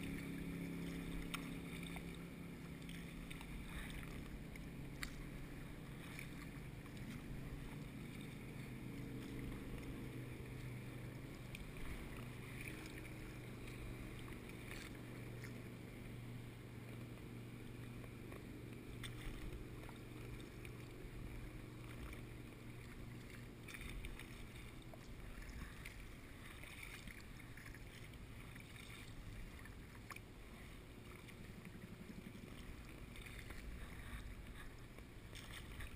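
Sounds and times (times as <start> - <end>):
steady low hum: 0.0 - 35.9
water lapping: 0.0 - 35.9.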